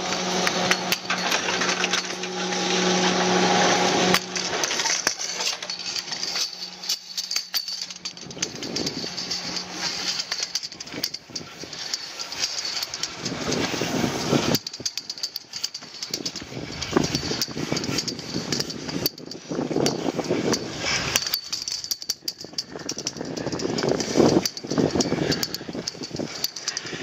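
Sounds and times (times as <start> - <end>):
small clicks and rattles: 0.0 - 27.0.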